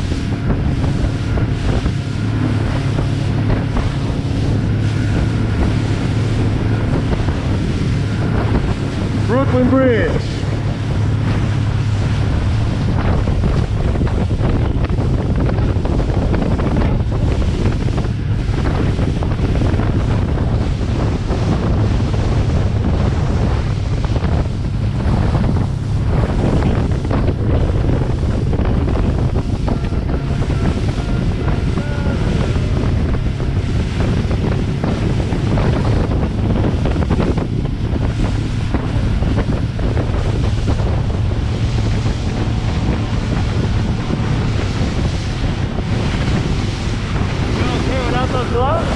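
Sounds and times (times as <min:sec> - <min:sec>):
motorboat engine droning: 0:00.0 - 0:48.9
water rushing and splashing: 0:00.0 - 0:48.9
wind buffeting microphone: 0:00.0 - 0:48.9.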